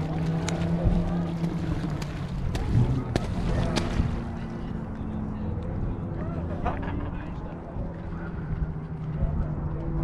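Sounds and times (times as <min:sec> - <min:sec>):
low motor hum: 0:00.0 - 0:10.0.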